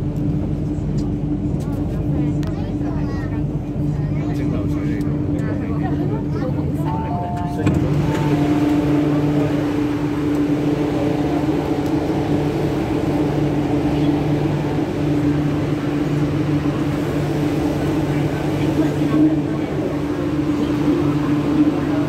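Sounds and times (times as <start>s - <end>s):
passengers moving about: 0.0s - 22.0s
train equipment humming: 0.0s - 22.0s.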